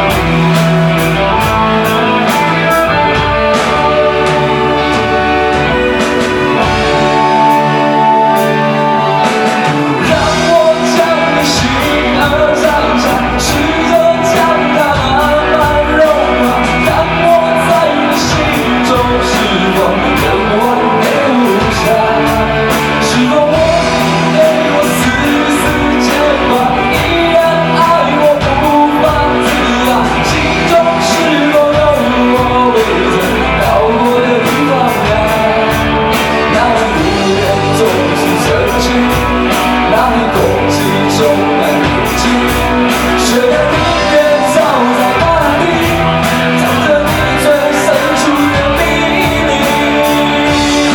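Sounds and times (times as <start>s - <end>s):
lead guitar melody bending: 0.0s - 50.9s
rock band playing live: 0.0s - 50.9s.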